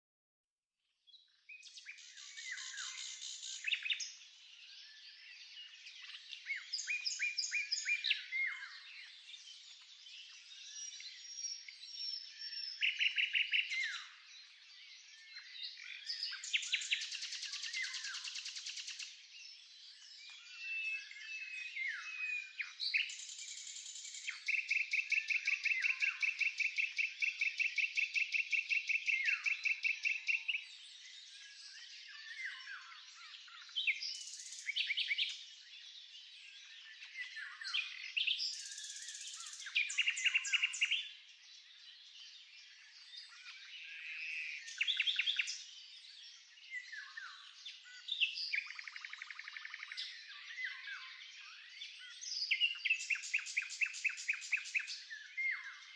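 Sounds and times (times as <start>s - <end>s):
bird singing whistled phrases: 1.5s - 9.5s, 10.5s - 14.2s, 15.2s - 19.1s, 19.9s - 35.4s, 36.4s - 41.2s, 43.2s - 45.8s, 46.7s - 55.9s.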